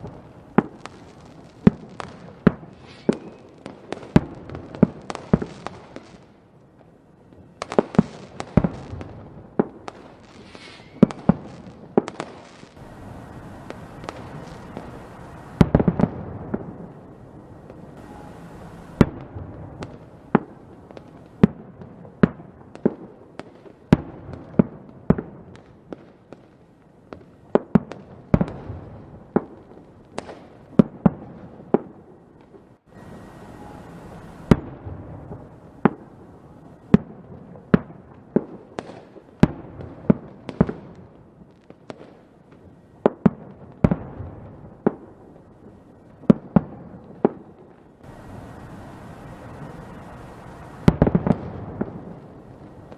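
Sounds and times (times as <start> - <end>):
fireworks bangs: 0.0 - 6.4, 7.4 - 52.9
fireworks crackle: 0.0 - 52.9.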